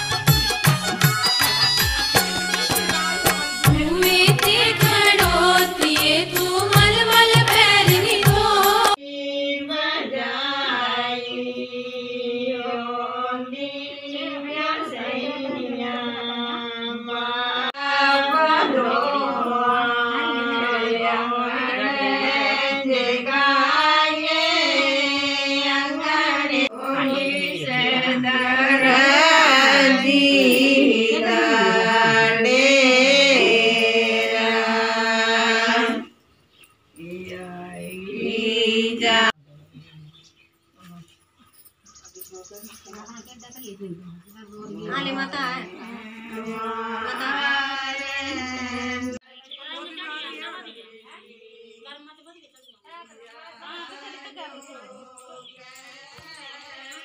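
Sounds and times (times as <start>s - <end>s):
devotional chant singing: 3.5s - 36.2s, 36.9s - 39.4s, 42.6s - 57.0s.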